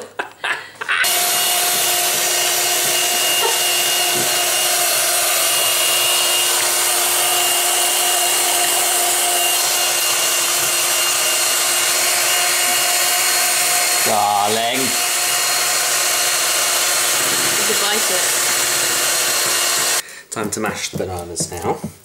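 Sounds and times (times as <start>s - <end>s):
electric hand mixer whirring: 1.0s - 20.0s.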